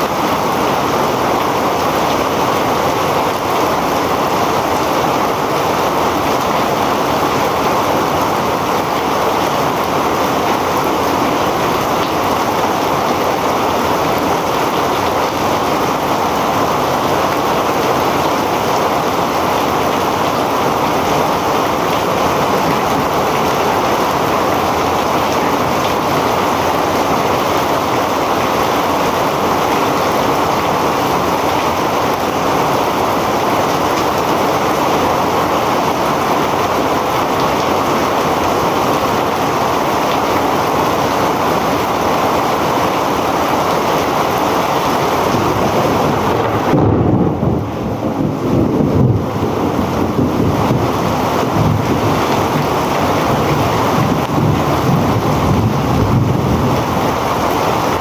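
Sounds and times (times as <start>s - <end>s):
heavy rain pouring: 0.0s - 58.0s
wind buffeting microphone: 3.2s - 39.5s, 43.6s - 58.0s.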